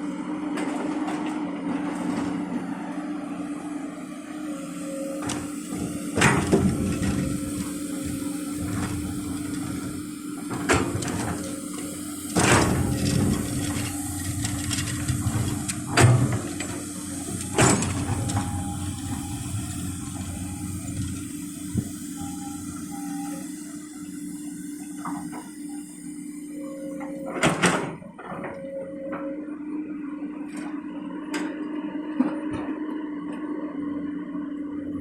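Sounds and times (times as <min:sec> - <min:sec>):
excavator engine hum: 0:00.0 - 0:35.0.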